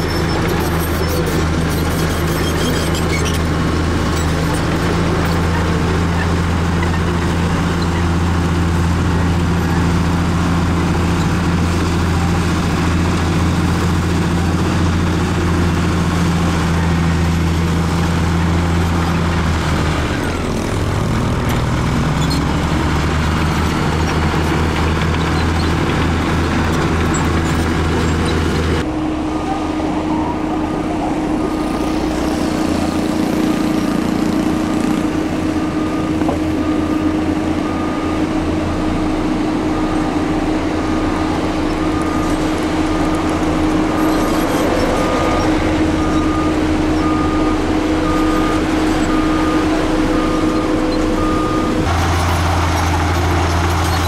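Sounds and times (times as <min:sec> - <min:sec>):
dump truck diesel engine running: 0:00.0 - 0:54.0
heavy diesel machine humming: 0:00.0 - 0:54.0.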